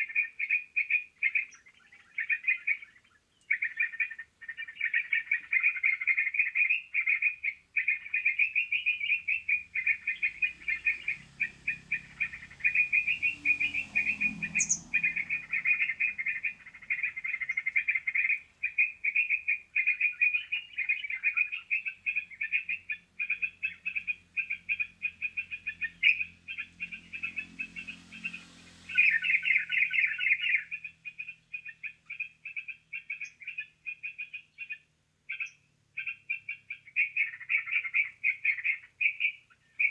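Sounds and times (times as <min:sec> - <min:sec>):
bird call through speaker: 0:00.0 - 0:39.9.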